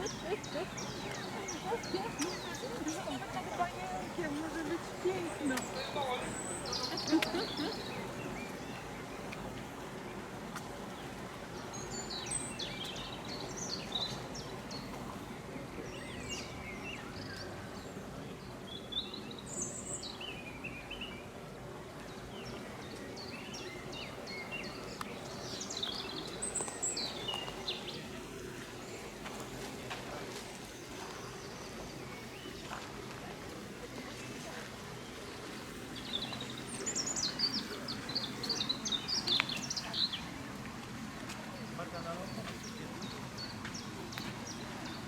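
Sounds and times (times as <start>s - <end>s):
small birds chirping: 0.0s - 17.6s, 22.0s - 45.0s
steady low background noise: 0.0s - 45.0s.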